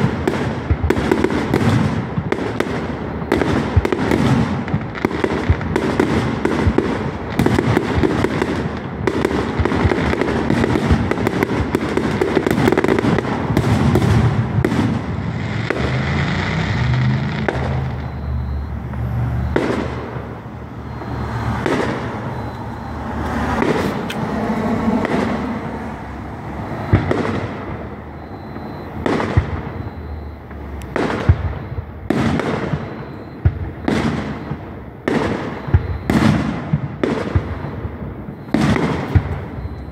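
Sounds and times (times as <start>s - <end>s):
firework bangs: 0.0s - 39.9s
fireworks bursting: 0.0s - 39.9s.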